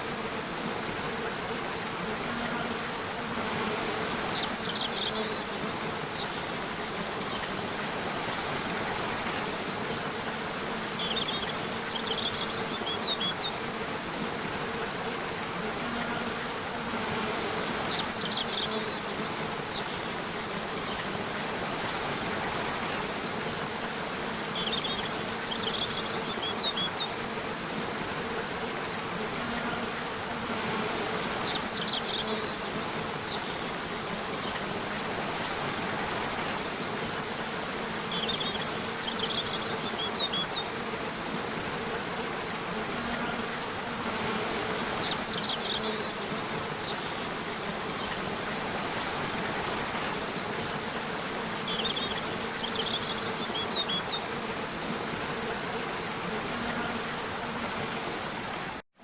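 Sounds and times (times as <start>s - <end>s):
insects buzzing: 0.0s - 58.8s.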